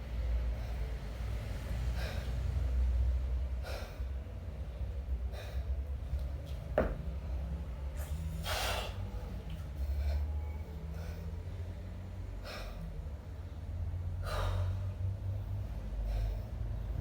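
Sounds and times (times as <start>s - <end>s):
steady low hum: 0.0s - 17.0s
forceful breaths: 0.2s - 17.0s.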